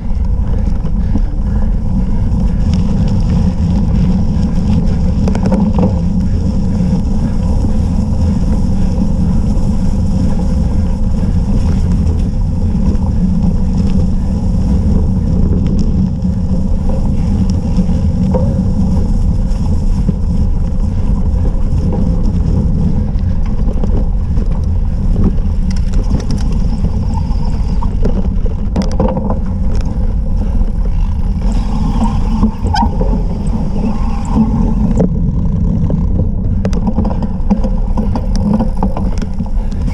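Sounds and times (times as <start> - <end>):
bike knocking and rattling: 0.0 - 39.9
tyres rolling over dirt: 0.0 - 39.9
wind buffeting microphone: 0.0 - 39.9.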